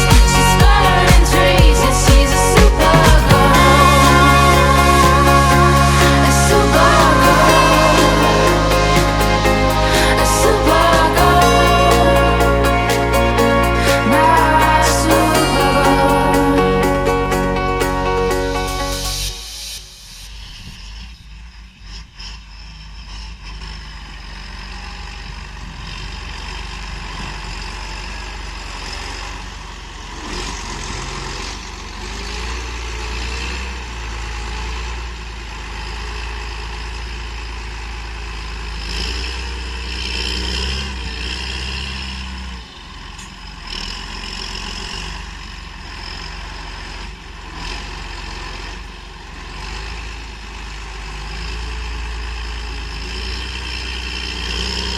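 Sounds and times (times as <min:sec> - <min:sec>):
tractor diesel engine rumbling: 0:00.0 - 0:54.9.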